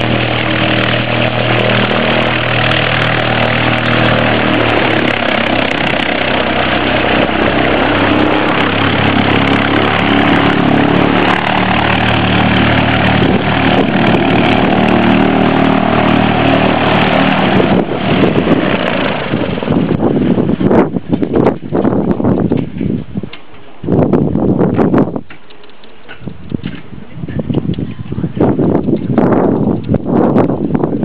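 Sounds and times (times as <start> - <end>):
light plane engine and propeller: 0.0 - 31.0.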